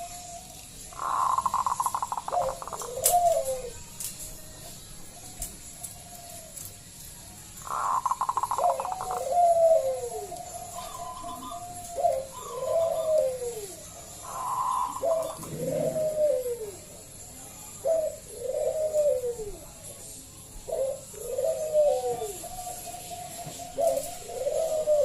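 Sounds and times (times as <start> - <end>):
dove cooing: 0.0 - 4.1, 7.6 - 19.9, 20.5 - 25.0.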